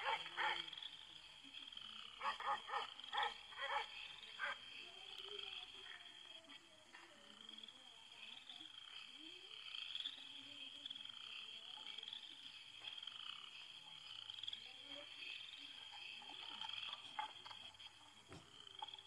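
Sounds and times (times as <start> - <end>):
frogs trilling: 0.0 - 19.0.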